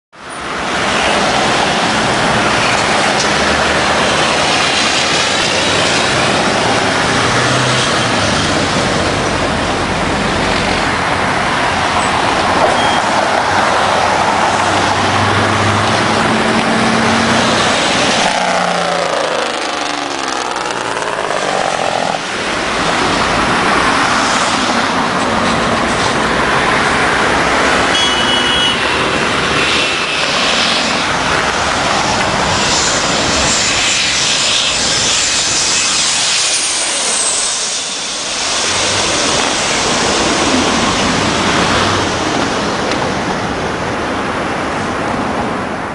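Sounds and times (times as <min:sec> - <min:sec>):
road traffic passing: 0:00.1 - 0:45.9.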